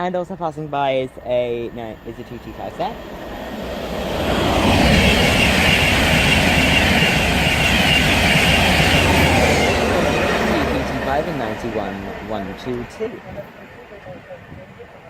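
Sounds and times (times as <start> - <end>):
train passing at speed: 0.2 - 15.0.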